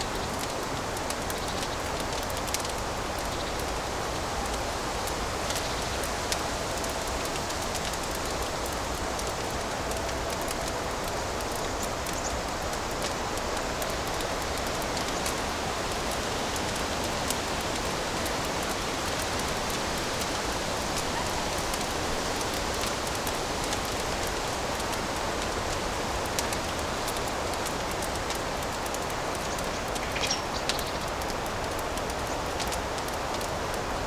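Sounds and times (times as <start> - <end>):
fireplace fire crackling: 0.0 - 34.0.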